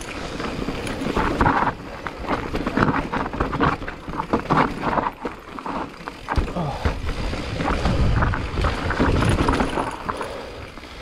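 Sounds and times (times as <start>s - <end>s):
bike rattling and knocking: 0.0s - 10.9s
bike tyres rolling over rock: 0.0s - 11.0s.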